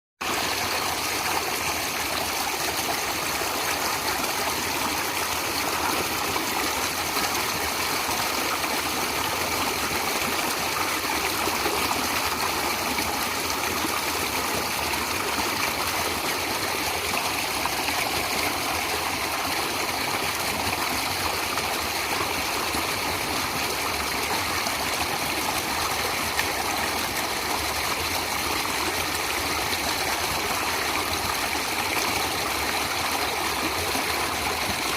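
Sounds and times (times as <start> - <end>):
stream water flowing: 0.2 - 34.9.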